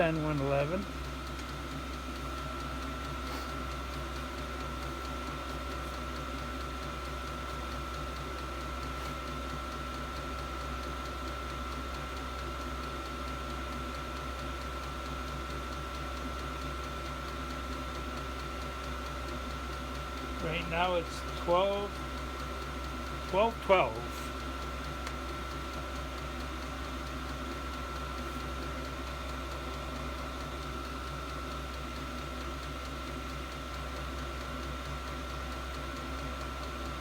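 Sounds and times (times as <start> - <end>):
diesel air heater humming: 0.0 - 37.0.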